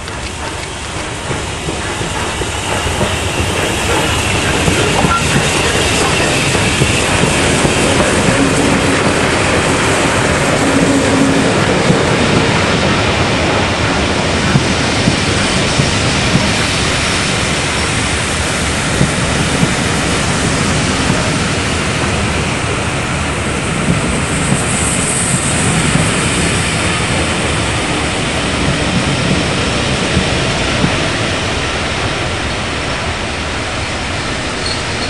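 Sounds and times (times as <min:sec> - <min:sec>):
high steam hiss: 0:00.0 - 0:35.0
steam train rushing past: 0:00.0 - 0:35.0.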